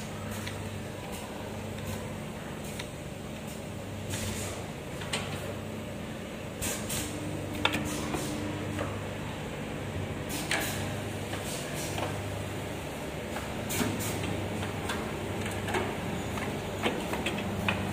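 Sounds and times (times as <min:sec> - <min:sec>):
low machine hum: 0:00.0 - 0:17.9.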